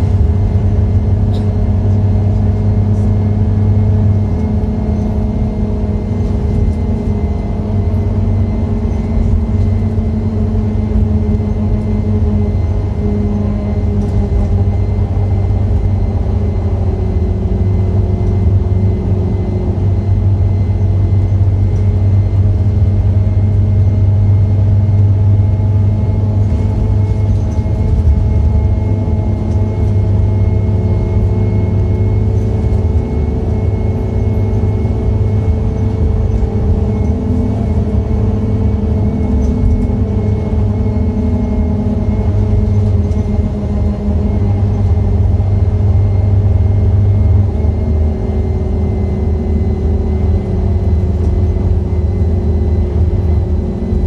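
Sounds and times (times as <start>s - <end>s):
bus diesel engine running: 0.0s - 54.0s
low road rumble: 0.0s - 54.0s.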